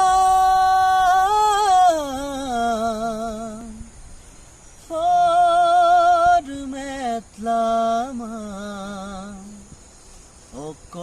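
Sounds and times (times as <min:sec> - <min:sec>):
person singing unaccompanied: 0:00.0 - 0:09.9, 0:10.5 - 0:11.0.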